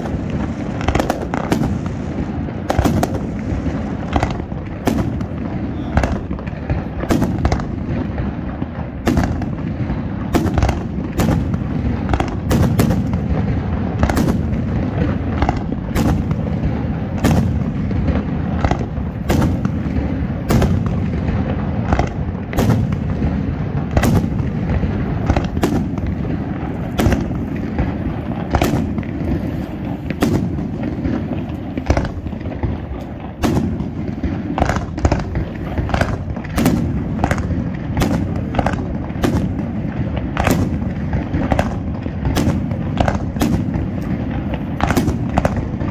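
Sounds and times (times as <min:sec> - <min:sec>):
firework shells bursting: 0:00.0 - 0:45.9
low rumble of explosions: 0:00.0 - 0:45.9.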